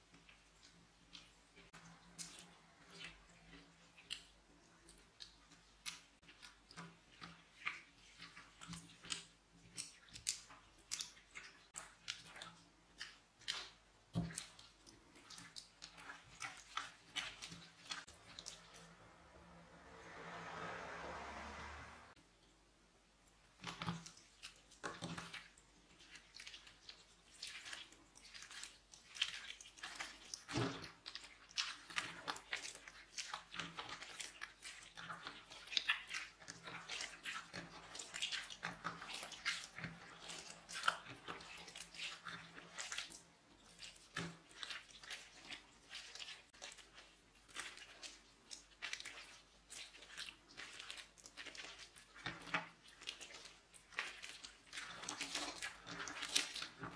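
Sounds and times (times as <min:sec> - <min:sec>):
slime crackling and squelching: 0:00.0 - 0:19.6, 0:23.3 - 0:56.9.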